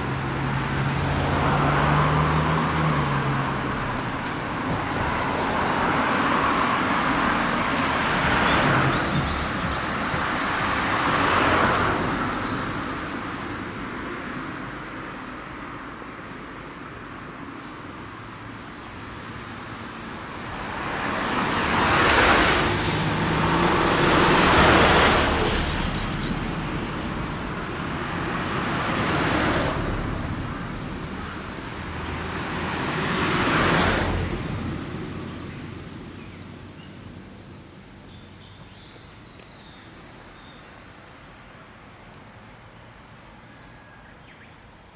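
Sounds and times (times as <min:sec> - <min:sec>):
road vehicles passing: 0:00.0 - 0:44.9.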